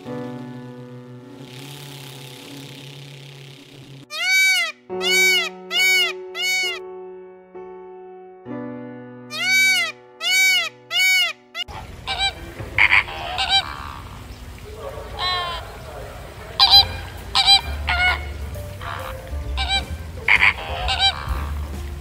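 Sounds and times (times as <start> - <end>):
flamingos honking: 1.4 - 6.8, 9.3 - 22.0
peacock calls: 1.5 - 6.8, 9.3 - 22.0.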